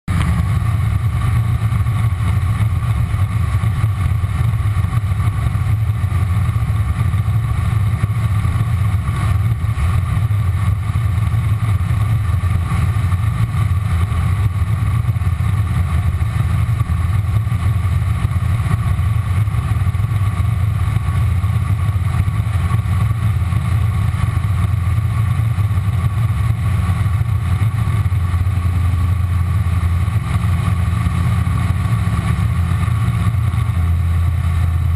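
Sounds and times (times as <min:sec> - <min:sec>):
boat engine running steadily: 0:00.0 - 0:34.9.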